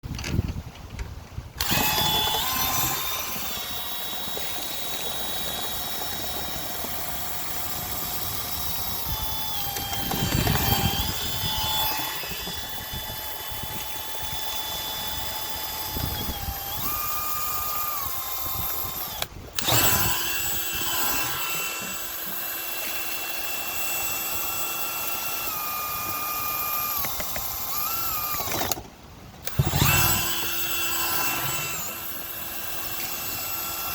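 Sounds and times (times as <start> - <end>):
power drill running: 1.6 - 28.8, 29.4 - 33.9.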